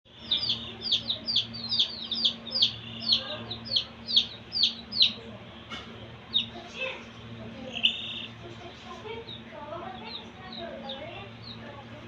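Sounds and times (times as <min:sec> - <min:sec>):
chicks peeping: 0:00.1 - 0:12.0.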